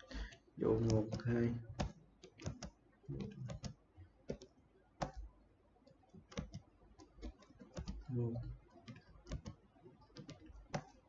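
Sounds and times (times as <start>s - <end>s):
keyboard keys clicking: 0.1s - 5.3s, 5.9s - 11.0s.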